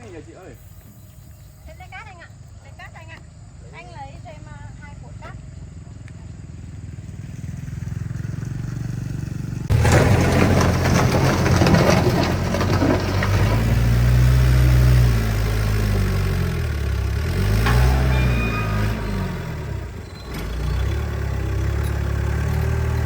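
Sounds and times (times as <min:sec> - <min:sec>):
vehicle engine running: 0:03.8 - 0:23.0.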